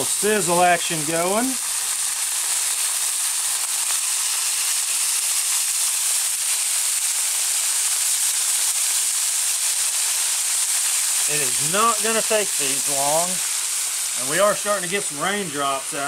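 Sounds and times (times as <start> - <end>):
steak sizzling on griddle: 0.0 - 16.0.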